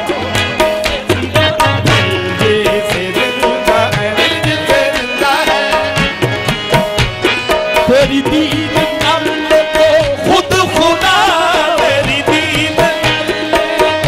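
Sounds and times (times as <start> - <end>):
harmoniums holding a chord: 0.0 - 14.0.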